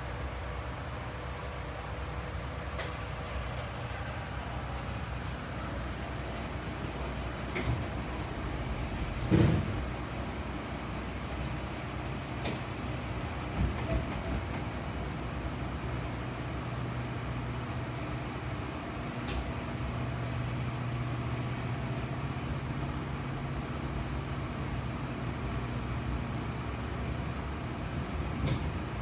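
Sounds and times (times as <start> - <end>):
train rumbling on board: 0.0 - 29.0.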